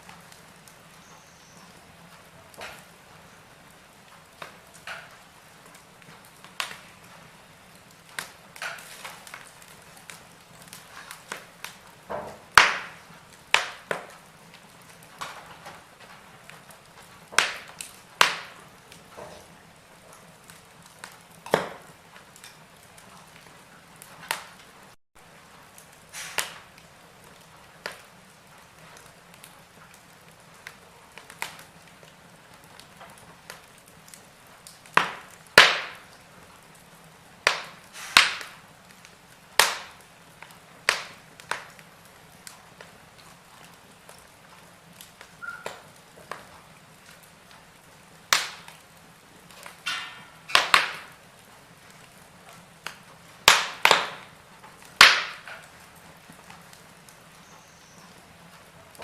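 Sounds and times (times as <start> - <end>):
sharp fire pops: 0.0 - 59.0
wood fire crackling: 0.0 - 59.0.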